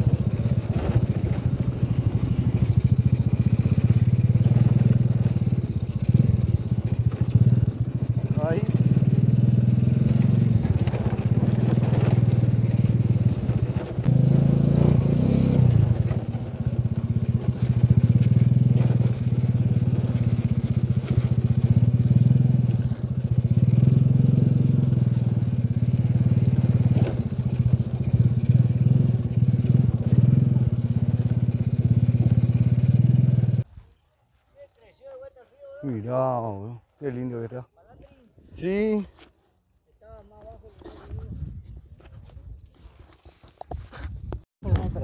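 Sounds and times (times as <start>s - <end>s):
scooter engine running: 0.0s - 33.9s, 40.4s - 45.0s.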